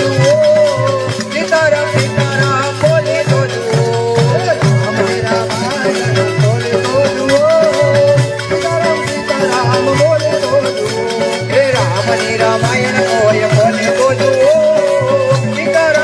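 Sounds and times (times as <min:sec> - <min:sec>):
jingling hand percussion: 0:00.0 - 0:16.0
repeating drum beat: 0:00.0 - 0:16.0
wavering instrumental melody: 0:00.0 - 0:16.0.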